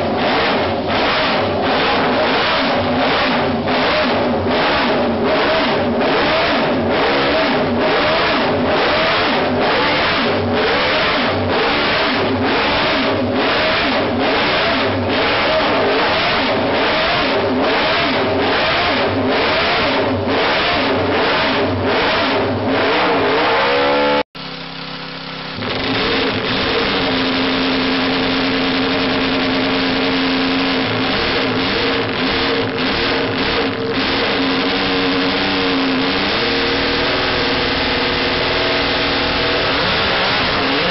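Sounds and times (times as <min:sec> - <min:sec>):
engine running steadily: 0:00.0 - 0:40.9
motorcycle engine pulsing: 0:00.0 - 0:40.9.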